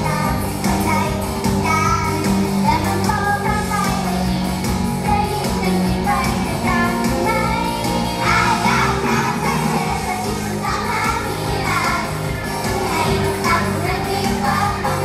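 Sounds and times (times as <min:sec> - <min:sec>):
pop backing track with bass: 0:00.0 - 0:15.0
women singing pop song: 0:00.0 - 0:15.0.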